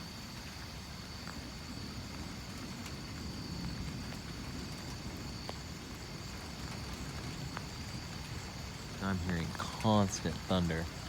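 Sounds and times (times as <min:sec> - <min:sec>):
crickets chirring: 0:00.0 - 0:11.0
steady rain: 0:00.0 - 0:11.0.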